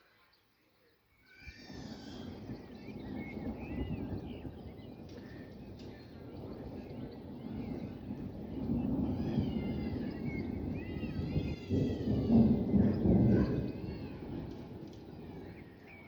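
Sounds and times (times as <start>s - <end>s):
birds chirping and singing: 0.0s - 16.0s
distant thunder rumbling: 1.4s - 16.0s.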